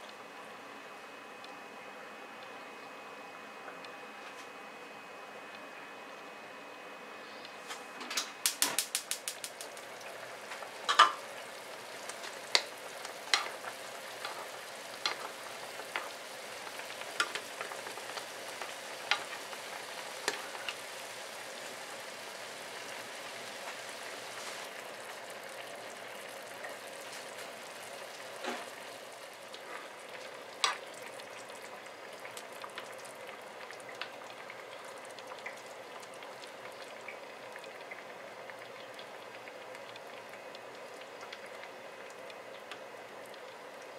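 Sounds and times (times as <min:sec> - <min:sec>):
broth simmering and sizzling: 0:05.4 - 0:43.9.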